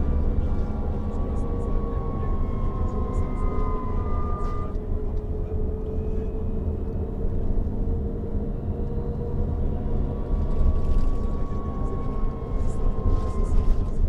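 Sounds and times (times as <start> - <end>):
low rumble of moving coach: 0.0 - 14.0.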